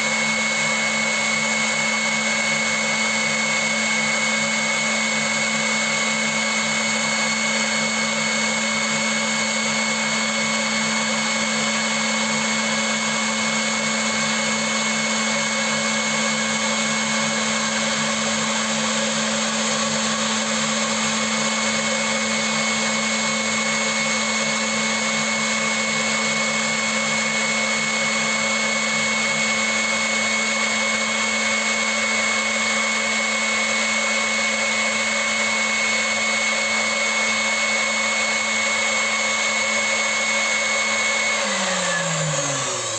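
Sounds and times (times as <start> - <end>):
milling machine whine and hum: 0.0 - 42.9.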